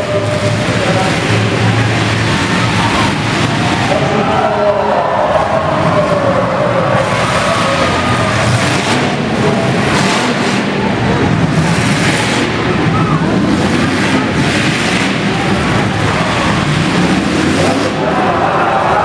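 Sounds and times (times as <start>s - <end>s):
car engines revving: 0.0s - 19.0s
voices: 0.0s - 19.0s.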